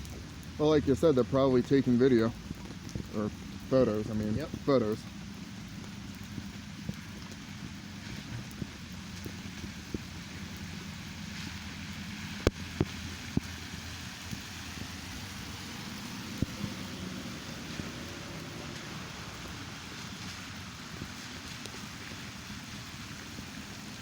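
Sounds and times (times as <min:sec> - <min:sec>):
car engines and passing traffic: 0:00.0 - 0:24.0.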